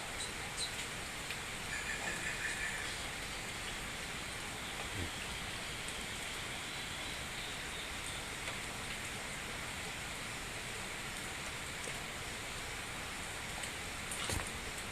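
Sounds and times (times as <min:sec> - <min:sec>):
running water hiss: 0:00.0 - 0:14.9.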